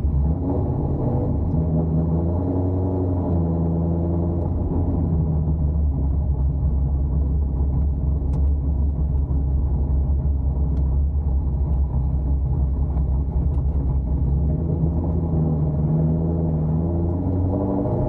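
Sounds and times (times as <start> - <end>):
deep choppy exhaust rumble: 0.0 - 18.0.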